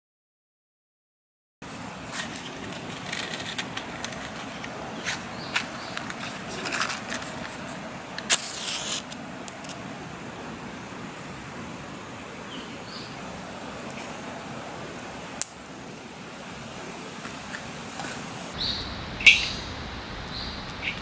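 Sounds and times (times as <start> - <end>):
background hiss: 1.6 - 21.0.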